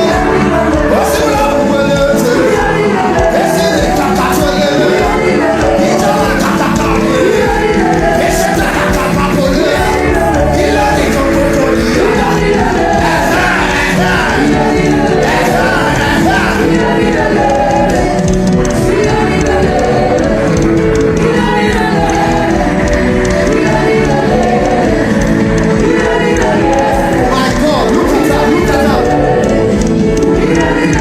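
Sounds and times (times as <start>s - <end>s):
crowd singing together: 0.0s - 31.0s
held keyboard chords: 0.0s - 31.0s.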